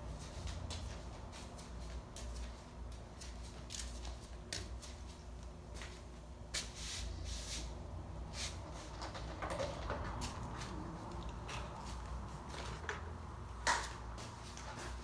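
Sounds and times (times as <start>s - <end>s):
desk fan humming: 0.0s - 15.0s.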